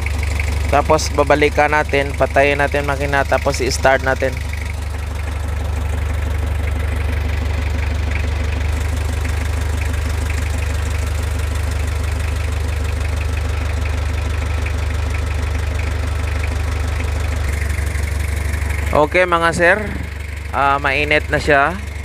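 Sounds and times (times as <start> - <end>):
diesel engine idling with ticking: 0.0 - 22.0.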